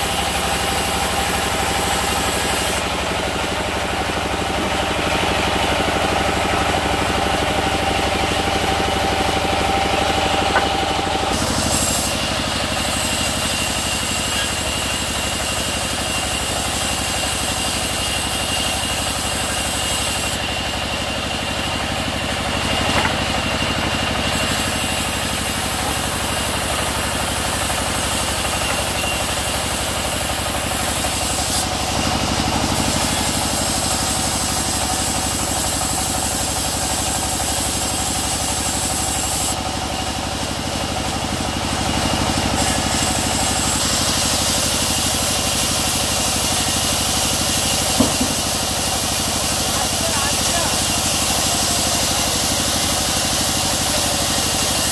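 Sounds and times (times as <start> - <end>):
engine drone: 0.0 - 54.9.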